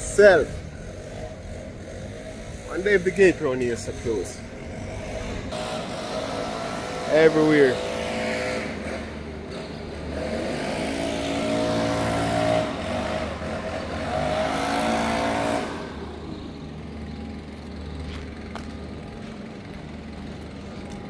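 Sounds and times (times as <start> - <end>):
street noise: 0.0 - 21.0
vehicle engine revving: 0.0 - 21.0.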